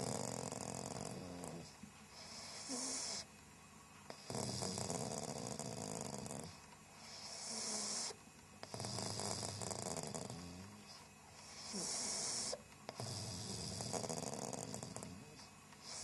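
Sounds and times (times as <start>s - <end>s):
dog snoring and hissing breath: 0.0s - 3.3s, 4.1s - 16.0s.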